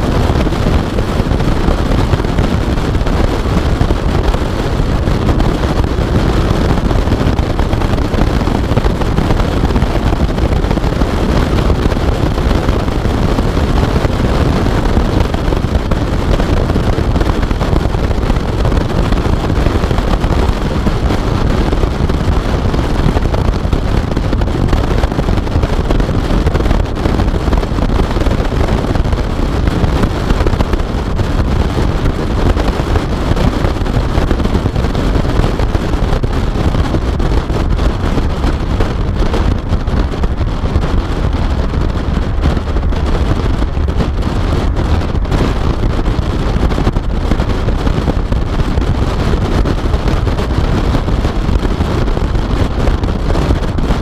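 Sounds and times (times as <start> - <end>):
road noise rumble: 0.0 - 54.0
wind rushing over microphone: 0.0 - 54.0.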